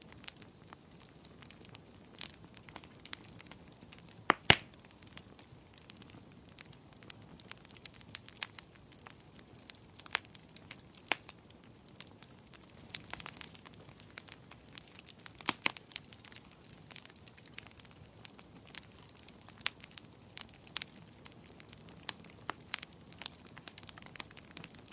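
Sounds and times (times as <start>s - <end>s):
soft hiss of burning: 0.0s - 24.9s
wood fire snapping and popping: 0.0s - 24.9s.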